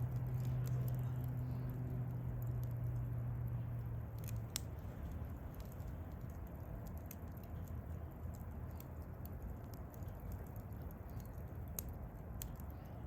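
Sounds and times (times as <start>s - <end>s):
burning wood crackles and pops: 0.0s - 13.0s
fire rumbling: 0.0s - 13.0s.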